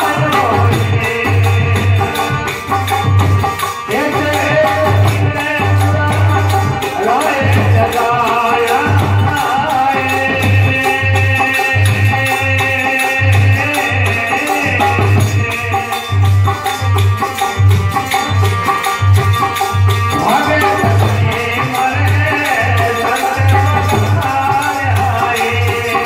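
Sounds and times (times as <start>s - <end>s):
dholak drum rhythm: 0.0s - 26.0s
harmonium sustained chords: 0.0s - 26.0s
jingling hand percussion: 0.0s - 26.0s.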